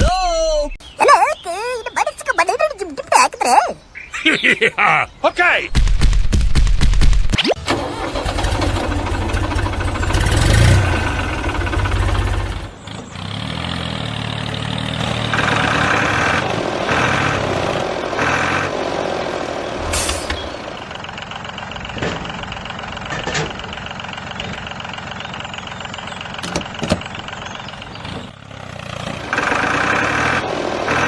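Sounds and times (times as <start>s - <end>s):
engine rumbling: 3.8s - 31.0s.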